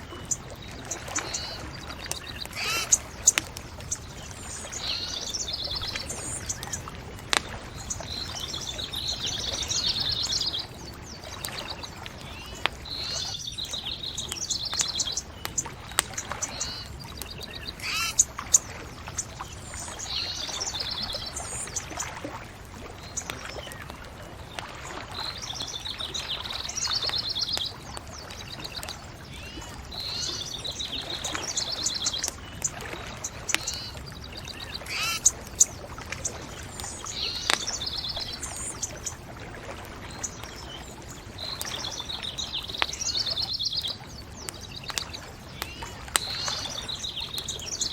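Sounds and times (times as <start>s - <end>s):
bonfire crackling and popping: 0.0s - 47.9s
songbirds singing: 0.0s - 47.9s.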